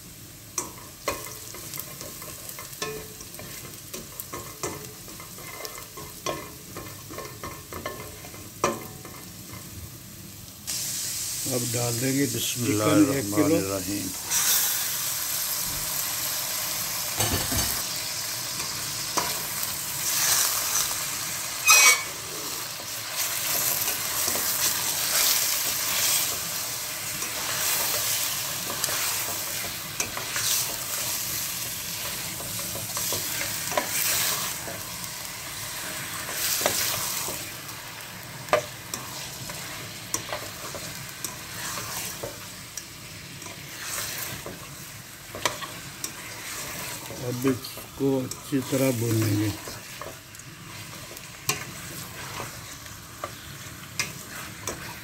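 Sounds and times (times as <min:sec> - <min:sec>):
chicken sizzling in hot oil: 0:00.0 - 0:55.0.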